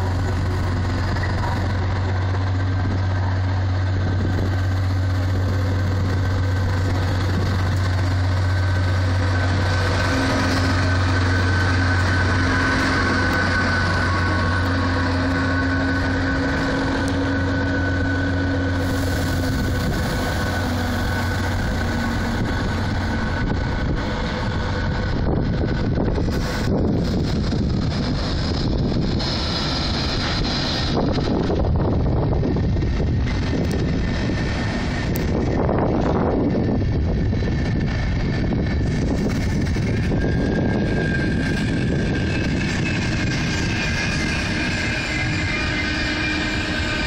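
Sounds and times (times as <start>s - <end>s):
diesel locomotive engine humming: 0.0s - 47.0s.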